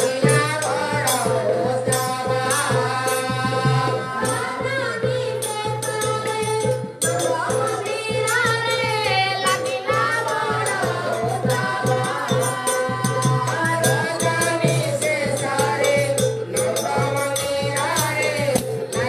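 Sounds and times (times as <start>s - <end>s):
jingling percussion: 0.0s - 19.0s
woman singing devotional song: 0.0s - 19.0s.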